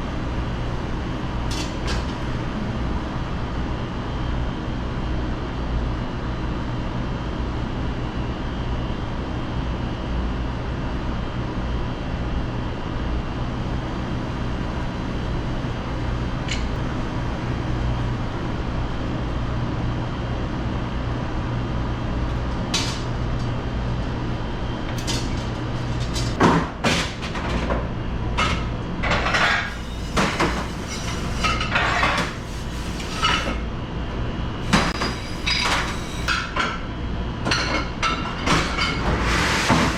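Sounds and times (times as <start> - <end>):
low hum of kitchen machinery: 0.0 - 39.9.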